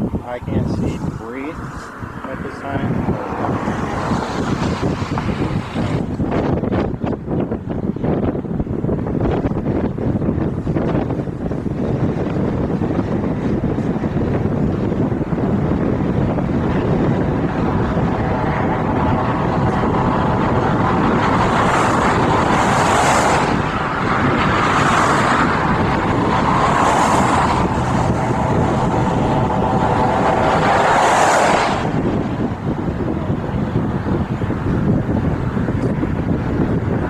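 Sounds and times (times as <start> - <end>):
car road and wind noise: 0.0 - 37.0.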